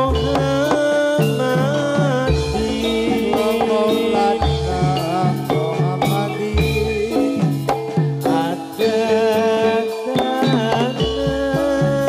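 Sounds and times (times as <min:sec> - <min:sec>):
hand drum strokes: 0:00.0 - 0:12.0
pitched gamelan melody: 0:00.0 - 0:12.0.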